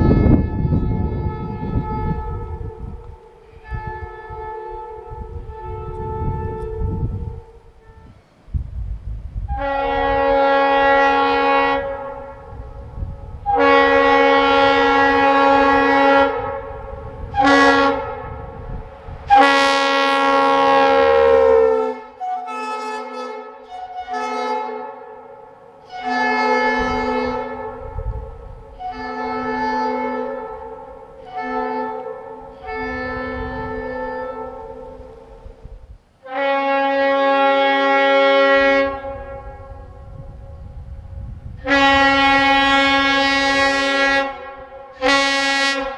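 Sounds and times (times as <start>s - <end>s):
train air horn blasts: 0.0s - 8.6s, 9.4s - 45.9s.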